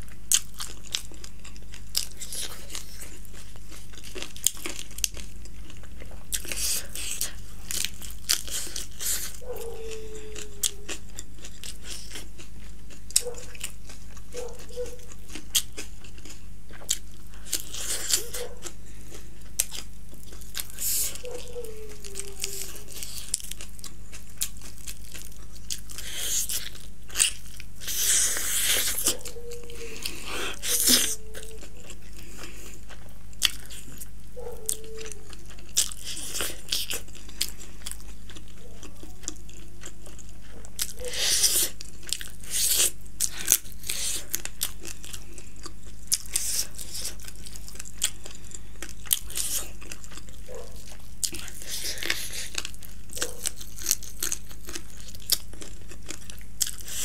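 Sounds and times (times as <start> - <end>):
close chewing and biting: 0.0 - 57.0
steady low hum: 0.0 - 57.0.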